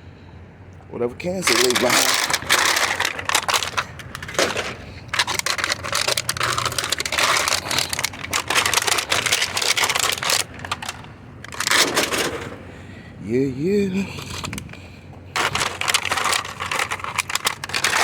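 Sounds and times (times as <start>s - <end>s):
aluminum cans crunching and clattering: 1.4s - 12.6s, 14.1s - 18.0s.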